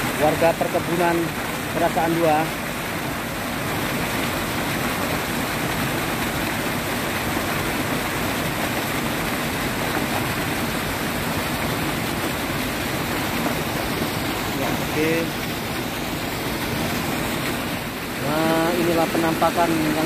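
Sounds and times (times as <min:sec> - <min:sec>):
water pouring over a weir: 0:00.0 - 0:20.0.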